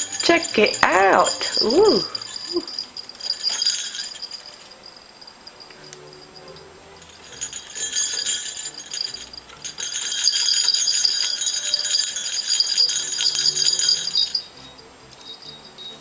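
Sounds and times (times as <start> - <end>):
small metal bell jingling: 0.0 - 16.0.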